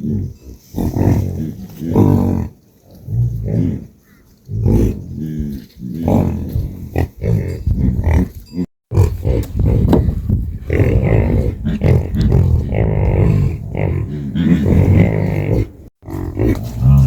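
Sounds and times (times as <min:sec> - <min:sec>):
cattle lowing and grunting: 0:00.0 - 0:17.0.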